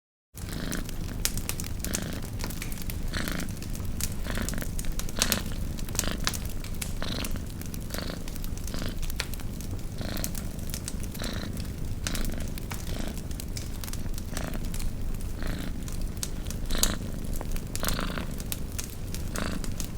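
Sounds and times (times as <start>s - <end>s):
campfire crackling and popping: 0.4s - 19.9s
cat purring: 0.4s - 19.9s.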